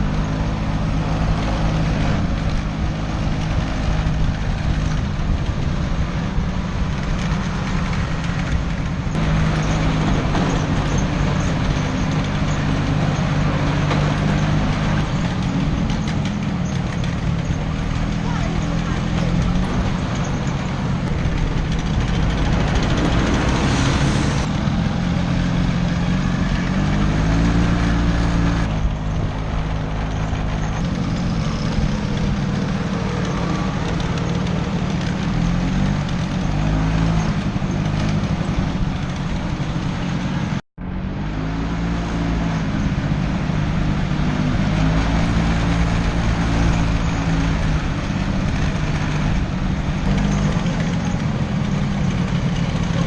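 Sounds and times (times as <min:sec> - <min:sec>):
scooter engine revving: 0:00.0 - 0:40.6, 0:41.4 - 0:53.0
wind and road noise: 0:00.0 - 0:53.0.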